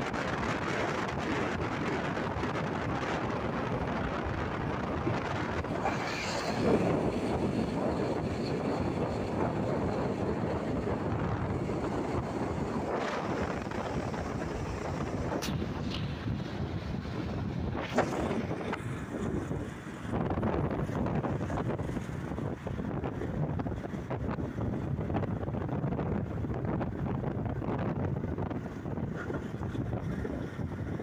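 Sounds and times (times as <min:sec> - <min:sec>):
passing traffic: 0:00.0 - 0:31.0
road noise: 0:00.0 - 0:31.0
wind rushing over microphone: 0:00.0 - 0:31.0.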